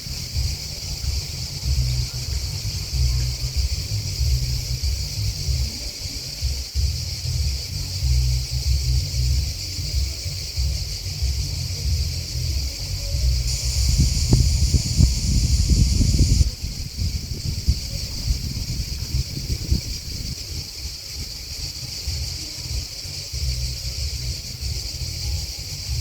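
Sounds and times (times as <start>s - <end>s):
grasshoppers chirping: 0.0s - 26.0s
low uneven rumble: 0.0s - 26.0s
nearer grasshopper singing: 0.0s - 26.0s.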